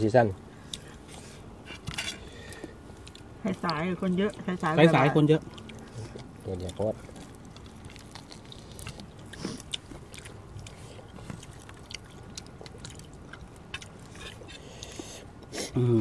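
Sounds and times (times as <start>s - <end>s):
quiet chewing: 0.4s - 15.8s.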